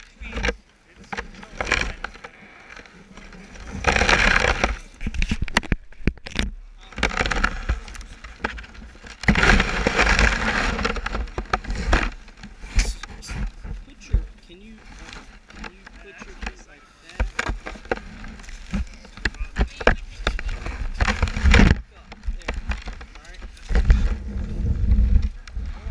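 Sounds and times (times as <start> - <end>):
rustling and scraping on camera: 0.0 - 25.9
soft crackles: 0.0 - 25.9.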